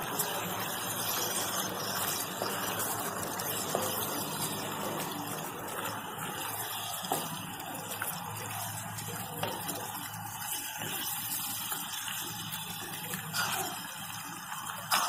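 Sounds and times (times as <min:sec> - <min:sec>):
spatula stirring pasta in sauce: 0:00.0 - 0:15.0.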